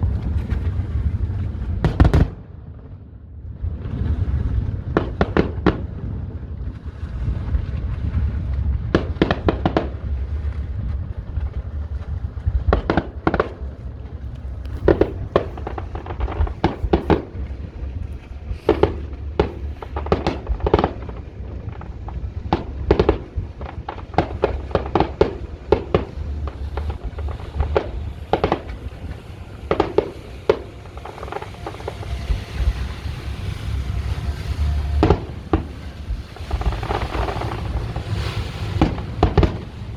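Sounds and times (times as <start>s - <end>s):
fireworks bangs and crackles: 0.0s - 39.9s
low rumble: 0.0s - 39.9s.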